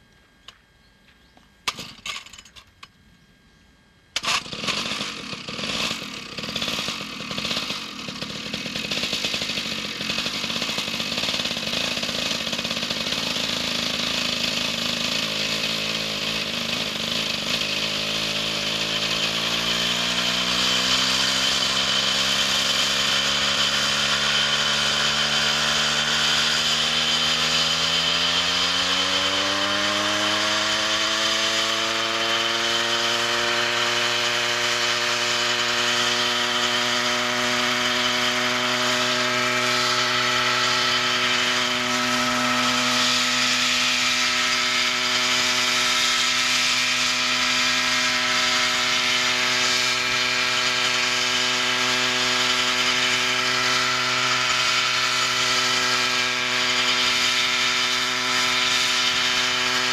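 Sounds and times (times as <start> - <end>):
model helicopter engine running: 4.2 - 59.9.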